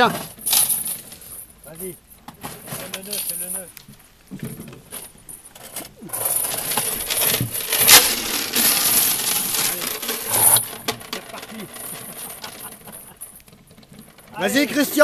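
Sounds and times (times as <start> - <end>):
metal chain rattling on deck: 0.0 - 15.0
chain clinks: 0.1 - 1.9, 2.6 - 3.8, 4.9 - 14.4.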